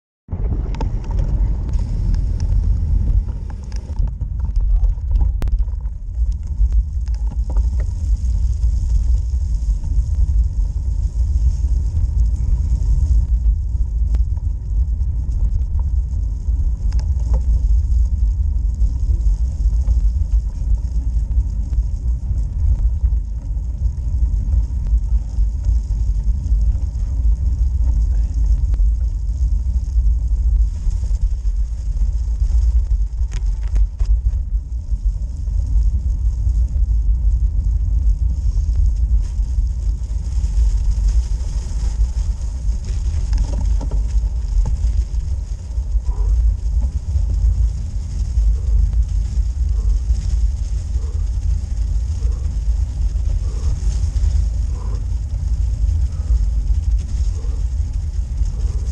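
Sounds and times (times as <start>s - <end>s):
road vibration rumble: 0.3s - 58.9s
wind buffeting: 0.3s - 58.9s
faint steady hiss: 0.6s - 58.9s.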